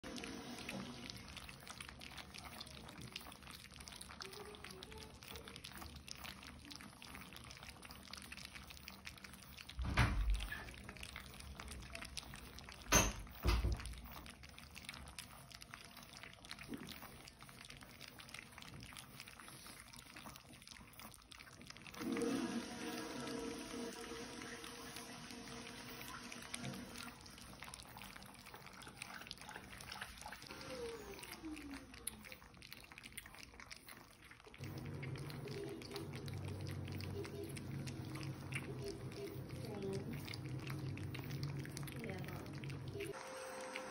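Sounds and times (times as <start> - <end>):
puppies lapping and slurping: 0.0 - 43.9.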